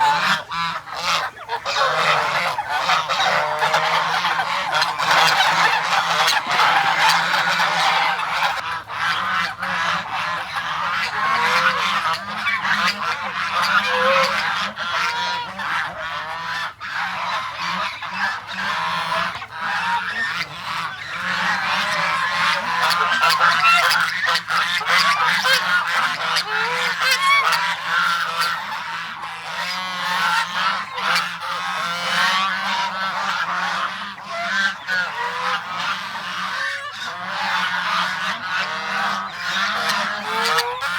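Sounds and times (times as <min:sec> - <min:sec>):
geese honking: 0:00.0 - 0:40.9.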